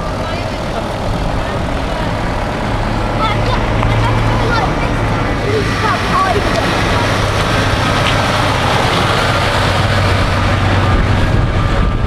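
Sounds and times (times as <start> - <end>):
fire engine diesel engine passing: 0.0 - 12.0.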